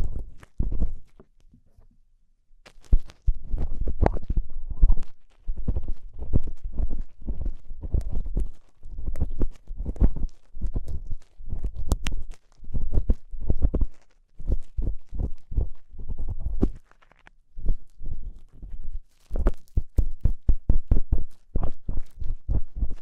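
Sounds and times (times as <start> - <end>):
scraping and rubbing on microphone: 0.0 - 2.0, 2.7 - 23.0.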